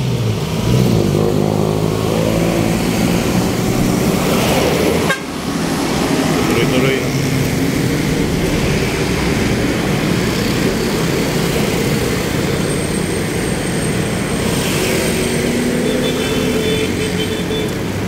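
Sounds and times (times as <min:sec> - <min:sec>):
road noise rumble: 0:00.0 - 0:18.0
vehicle engines running: 0:00.0 - 0:18.0.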